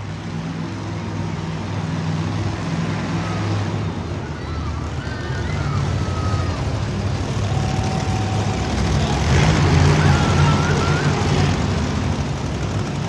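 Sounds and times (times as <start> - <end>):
loud truck engine running: 0.0 - 13.0.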